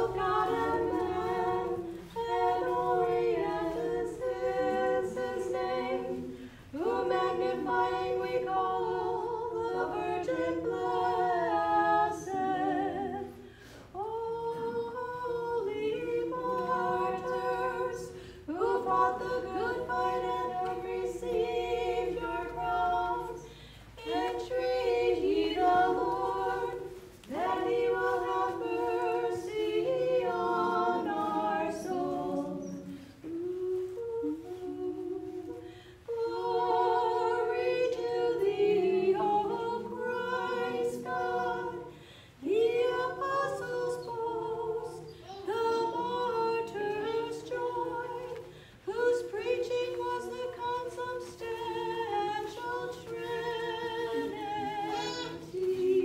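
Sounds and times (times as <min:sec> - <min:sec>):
voices singing a hymn unaccompanied: 0:00.0 - 0:56.0.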